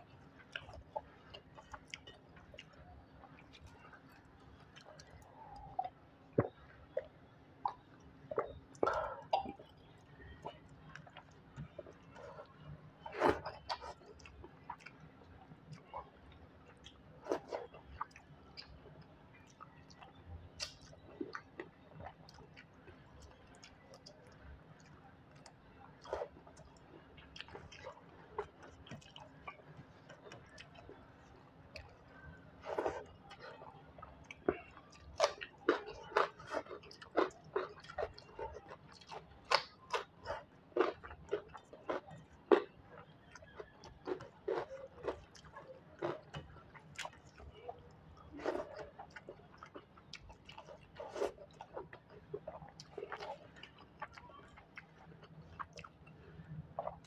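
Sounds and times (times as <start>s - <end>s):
person chewing with wet smacks: 0.0s - 57.0s.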